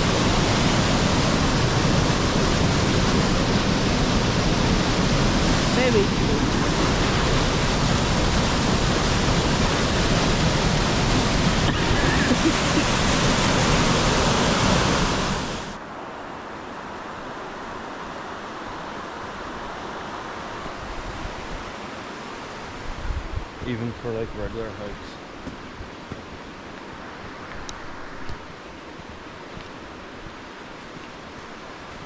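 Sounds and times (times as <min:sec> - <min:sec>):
mountain creek rushing water: 0:00.0 - 0:32.0.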